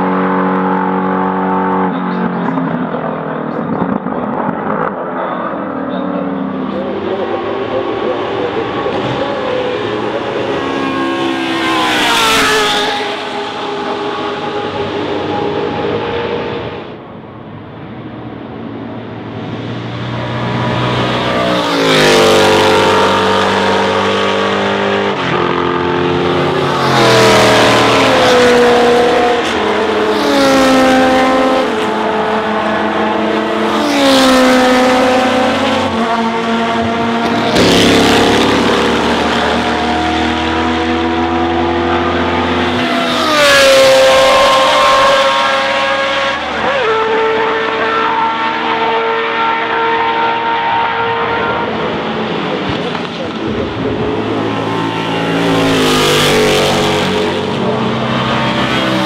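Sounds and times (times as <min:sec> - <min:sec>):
racing cars passing at high revs: 0:00.0 - 0:59.0.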